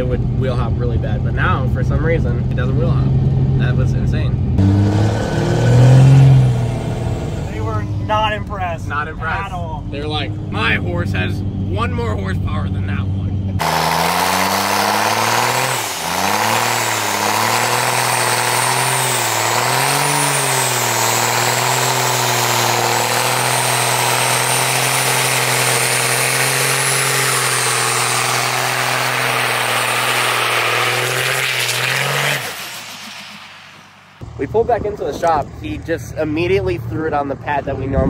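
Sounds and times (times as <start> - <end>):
diesel engine at high revs: 0.0 - 34.8
spinning tire rush: 0.0 - 35.6.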